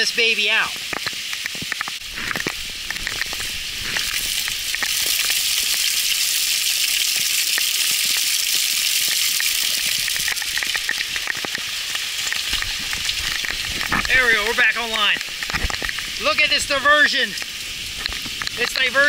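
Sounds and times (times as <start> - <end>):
heavy rain falling: 0.0 - 19.0
raindrops ticking close by: 0.0 - 19.0.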